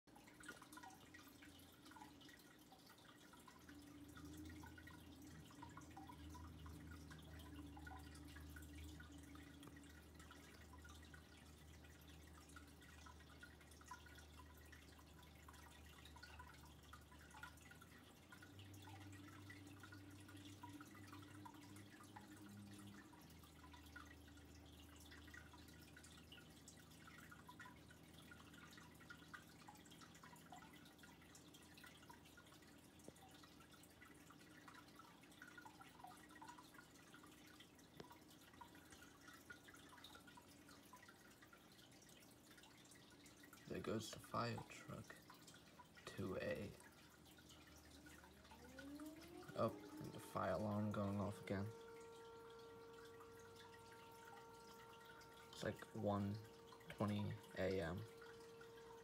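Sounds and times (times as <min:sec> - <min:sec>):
faint low hum: 0:00.1 - 0:59.0.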